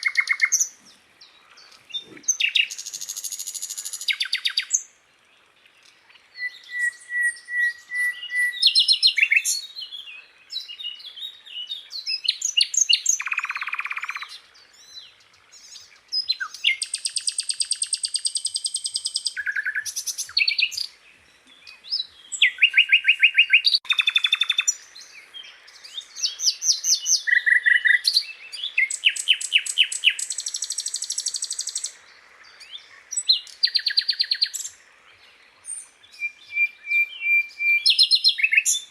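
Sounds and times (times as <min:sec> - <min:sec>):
flycatcher singing chirps and trills: 0:00.0 - 0:04.9, 0:05.8 - 0:38.9.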